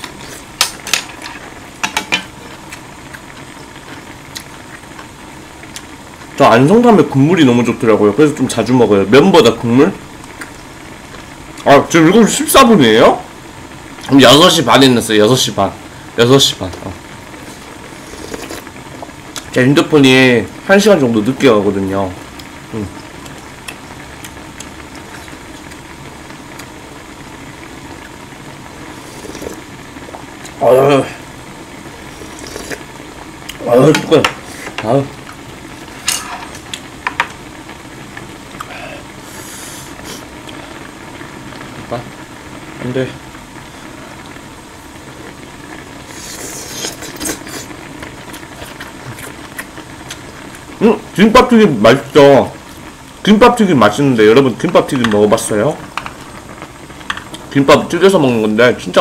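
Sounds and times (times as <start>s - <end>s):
boiling pot hissing: 0.0s - 59.0s.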